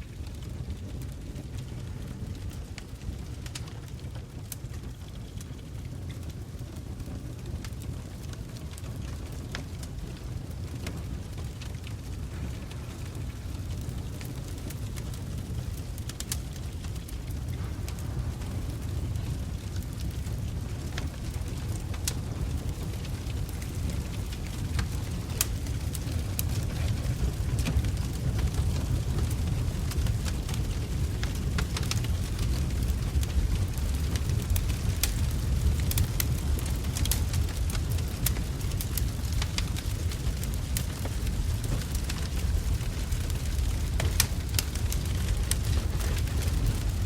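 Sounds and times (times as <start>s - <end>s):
logs crackling and popping: 0.0s - 47.0s
low fire rumble: 0.0s - 47.0s.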